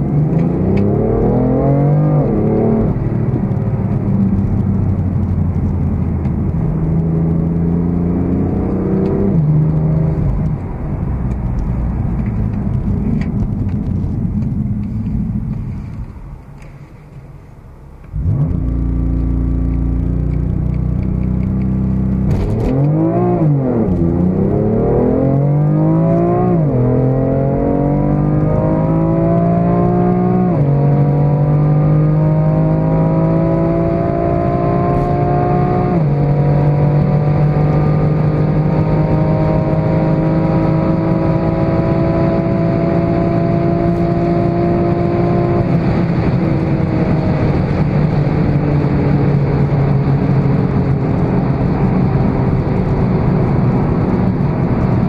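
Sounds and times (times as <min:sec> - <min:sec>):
car engine accelerating hard: 0:00.0 - 0:16.1, 0:18.0 - 0:55.0
road and wind noise: 0:00.0 - 0:55.0.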